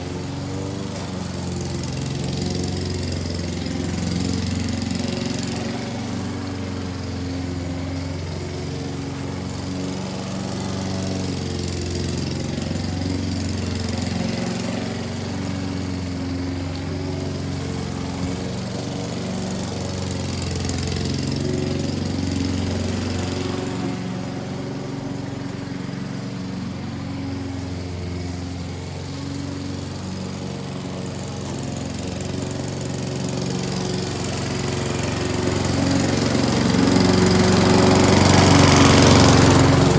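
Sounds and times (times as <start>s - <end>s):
lawn mower cutting grass: 0.0s - 39.9s.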